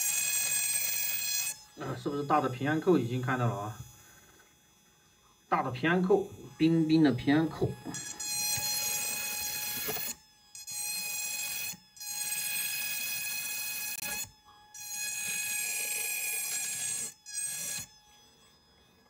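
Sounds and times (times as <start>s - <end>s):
electric rotary grinder whining: 0.0s - 19.0s.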